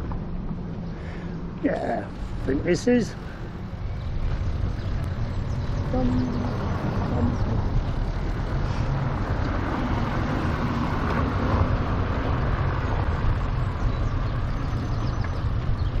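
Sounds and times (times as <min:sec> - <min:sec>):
wind and road noise: 0:00.0 - 0:16.0
wind buffeting microphone: 0:00.0 - 0:16.0.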